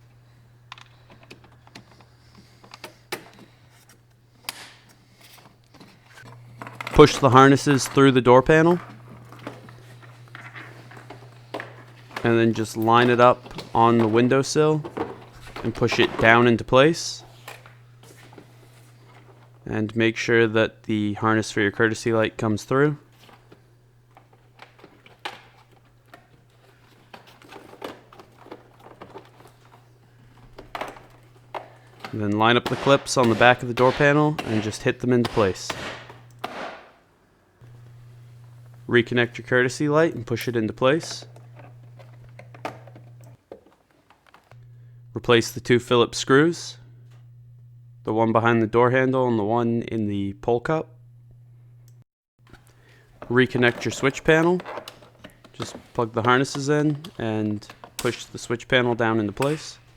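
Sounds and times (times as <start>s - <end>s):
steady low hum: 0.0s - 36.7s, 37.6s - 43.4s, 44.5s - 59.9s.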